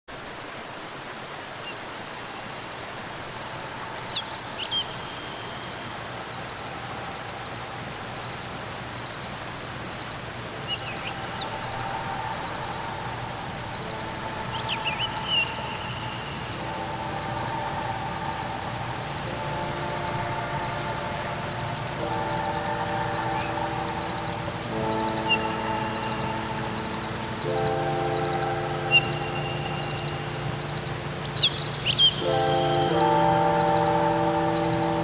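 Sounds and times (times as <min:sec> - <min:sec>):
waterfall rushing: 0:00.1 - 0:35.0.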